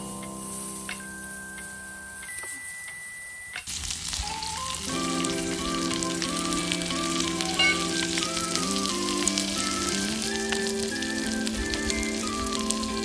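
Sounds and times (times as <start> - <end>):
background music: 0.0 - 13.0
food sizzling: 0.0 - 13.0.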